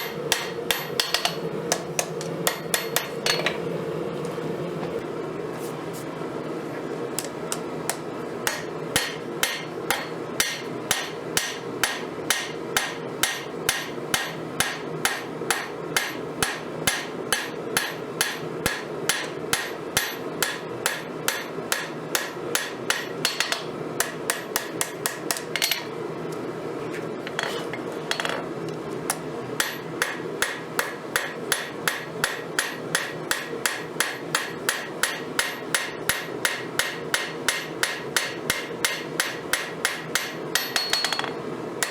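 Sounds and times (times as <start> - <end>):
hammer striking hot steel: 0.0 - 3.6, 7.9 - 25.9, 29.6 - 41.9
steady background noise: 0.0 - 41.9.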